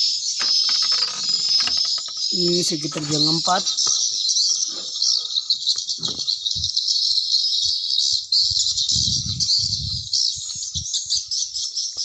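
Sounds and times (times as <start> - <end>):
high chirping twitter from speakers: 0.0 - 12.0.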